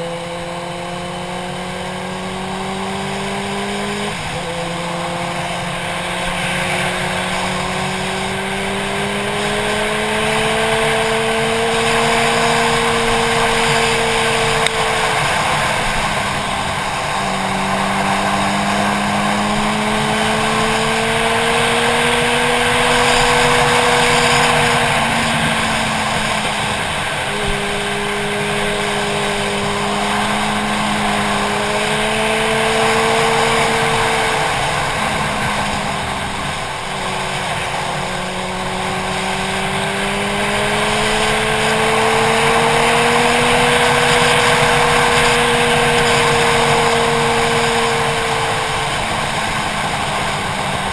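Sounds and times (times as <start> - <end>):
motorcycle engine: 0.0 - 50.9
wind rush: 1.5 - 50.9.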